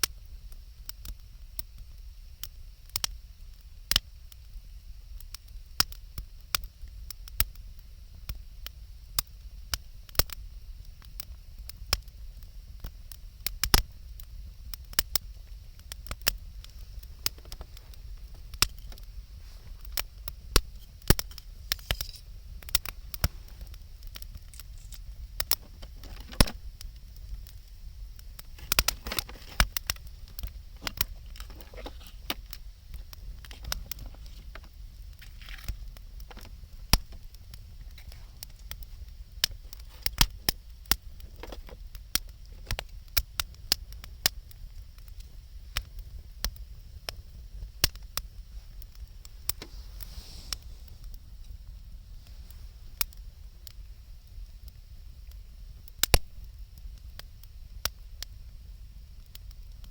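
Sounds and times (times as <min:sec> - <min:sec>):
bonfire crackling and popping: 0:00.0 - 0:59.9
low fire rumble: 0:00.0 - 0:59.9.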